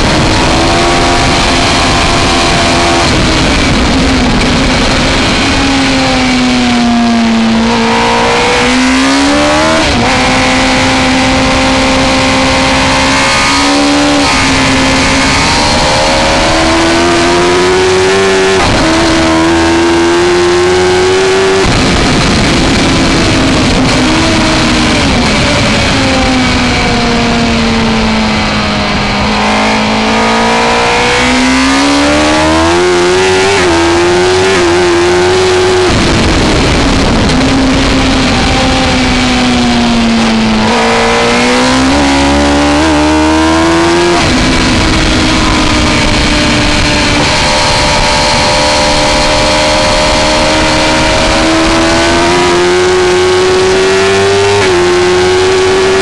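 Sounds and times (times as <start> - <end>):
motorcycle engine at racing speed: 0.0 - 56.0.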